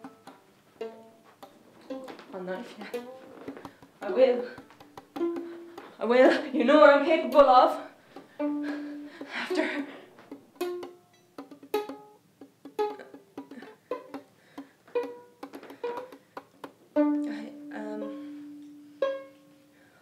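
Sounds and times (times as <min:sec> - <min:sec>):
plucked string instrument notes: 0:00.0 - 0:20.0.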